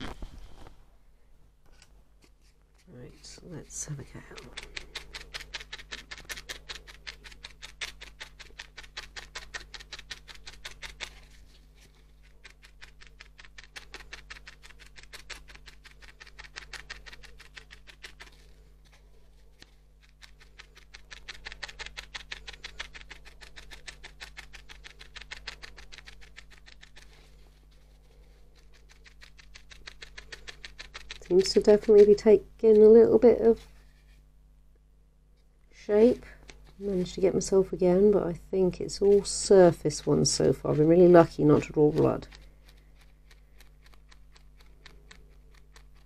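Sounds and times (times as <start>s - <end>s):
felting needle poking wool: 2.2s - 34.2s, 35.9s - 46.0s.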